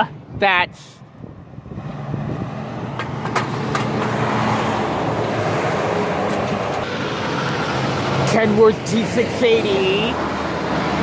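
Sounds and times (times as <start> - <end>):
diesel truck engine hum: 0.0 - 11.0.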